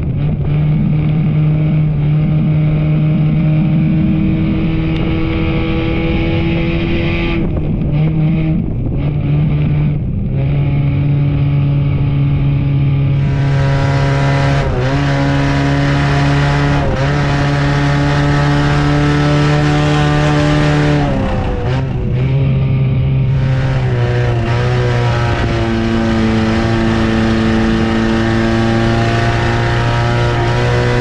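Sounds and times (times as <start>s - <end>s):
race car engine at high revs: 0.0s - 31.0s.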